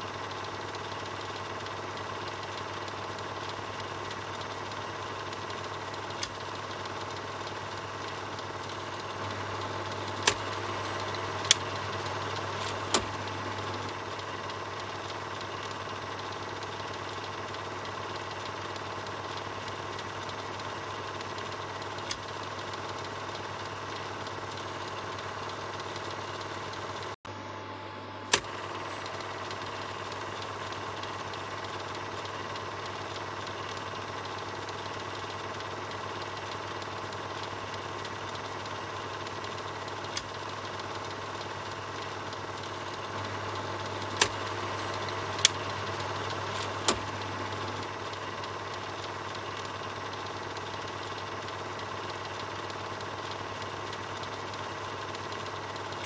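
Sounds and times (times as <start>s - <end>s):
film projector whirring: 0.0s - 56.0s
projector clicks: 0.4s - 27.0s, 28.3s - 56.0s.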